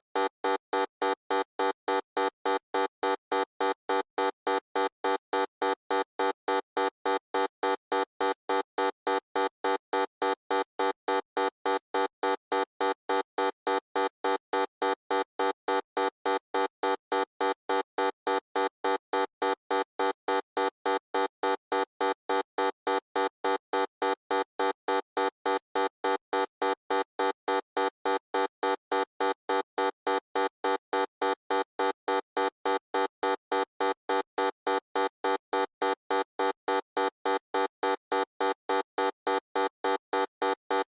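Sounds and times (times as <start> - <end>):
electronic buzzer beeping: 0.2 - 40.9.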